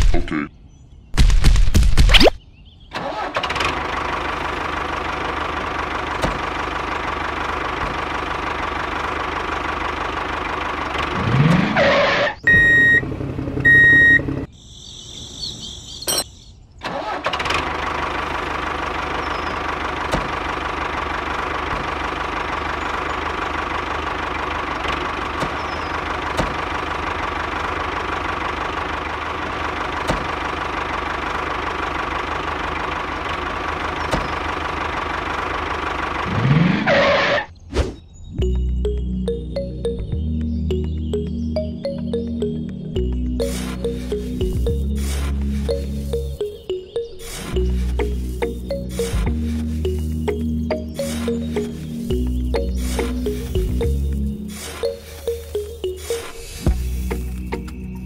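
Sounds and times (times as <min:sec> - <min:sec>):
small engine droning: 0:02.9 - 0:14.5, 0:16.8 - 0:37.5, 0:38.4 - 0:58.0.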